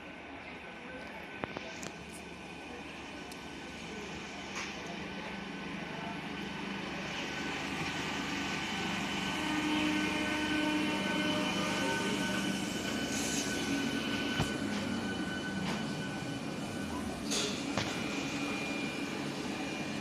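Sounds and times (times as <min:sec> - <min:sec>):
train rumbling on tracks: 0:00.0 - 0:20.0.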